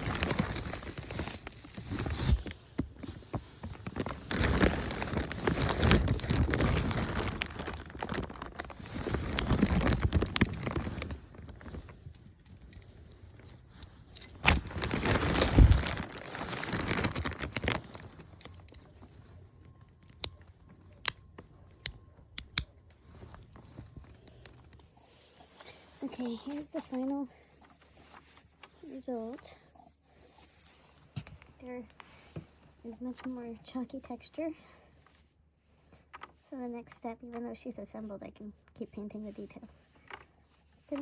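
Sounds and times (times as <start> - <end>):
rubbing and crinkling of handling: 0.0 - 41.0.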